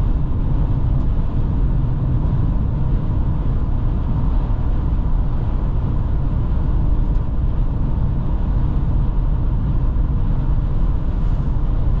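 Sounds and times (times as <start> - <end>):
tyres rumbling on asphalt: 0.0 - 12.0.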